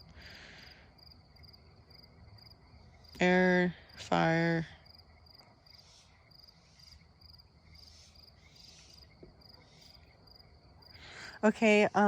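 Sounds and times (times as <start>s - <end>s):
faint crickets chirping: 0.0s - 12.0s.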